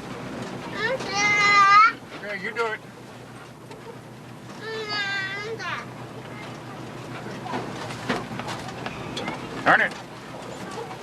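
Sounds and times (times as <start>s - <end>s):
pickup truck running: 0.0s - 11.0s.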